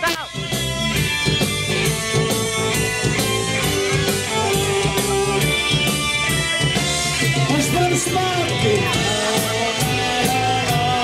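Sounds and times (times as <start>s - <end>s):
drum kit beat: 0.0s - 11.0s
guitar: 0.0s - 11.0s.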